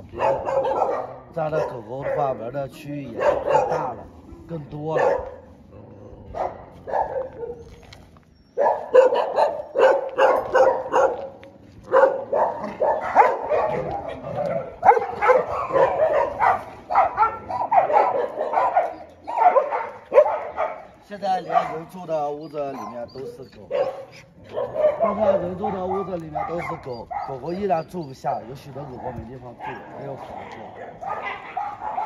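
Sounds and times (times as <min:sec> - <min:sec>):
dogs barking: 0:00.0 - 0:04.2, 0:04.9 - 0:32.0.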